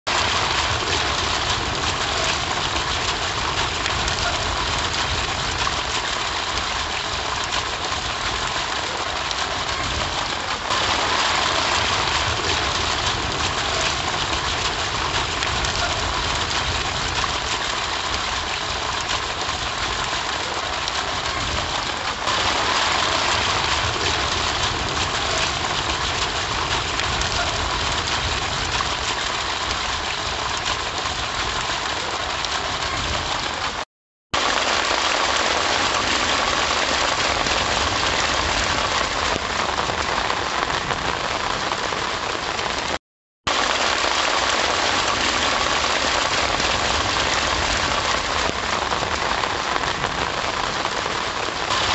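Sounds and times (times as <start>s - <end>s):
water gushing from pipe splashing: 0.1s - 33.8s, 34.4s - 51.9s
rain falling on wet ground: 0.1s - 51.9s.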